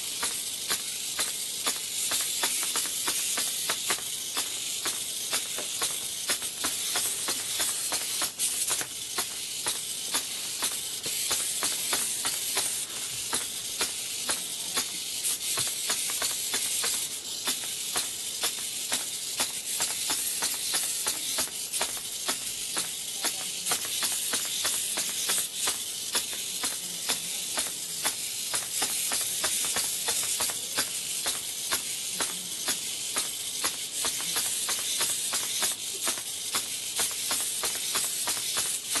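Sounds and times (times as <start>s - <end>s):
constant high hiss: 0.0s - 39.0s
plastic legs tapping and clicking: 0.0s - 39.0s
servos whirring: 0.0s - 39.0s.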